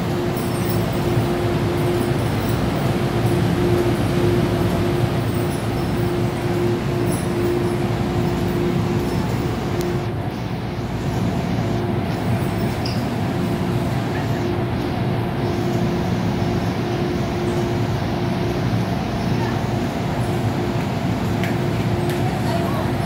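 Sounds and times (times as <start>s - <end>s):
constant electric hum: 0.0s - 23.0s
train wheels rumbling on rails: 0.0s - 23.0s.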